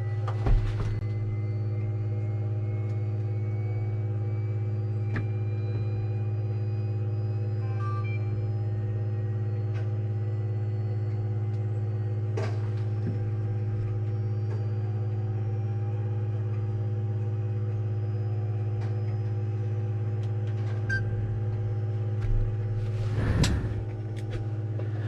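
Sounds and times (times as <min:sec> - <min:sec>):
electrical hum in cockpit: 0:00.0 - 0:25.0.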